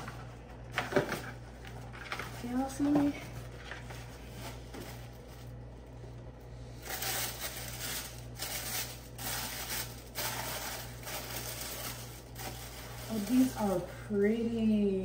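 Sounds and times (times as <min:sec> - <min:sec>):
gift wrapping rustling: 0:00.0 - 0:13.9
steady low hum: 0:00.0 - 0:15.0.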